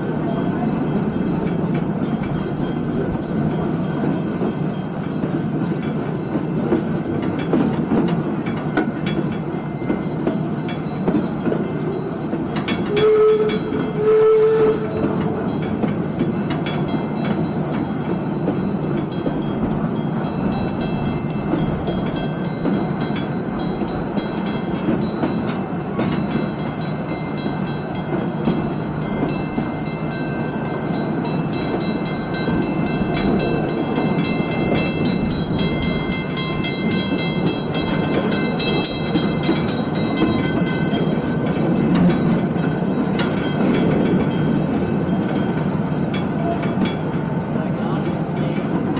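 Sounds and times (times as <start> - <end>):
wheels rumbling on rail: 0.0 - 48.9.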